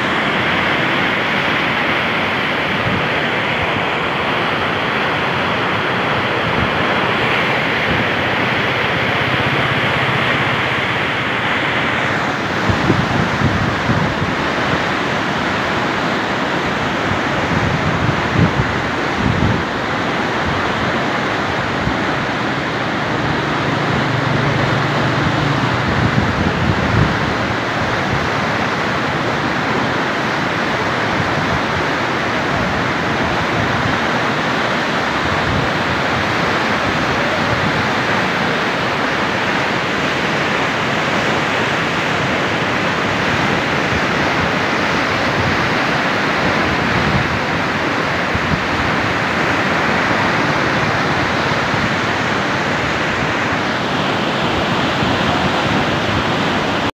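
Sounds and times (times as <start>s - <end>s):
floodwater rushing: 0.0s - 56.9s.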